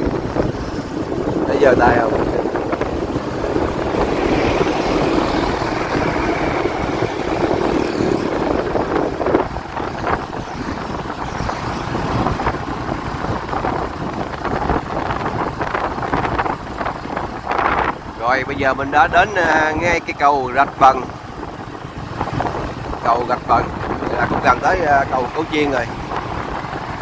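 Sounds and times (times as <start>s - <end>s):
vehicle moving through traffic: 0.0s - 27.0s
wind buffeting microphone: 0.0s - 27.0s.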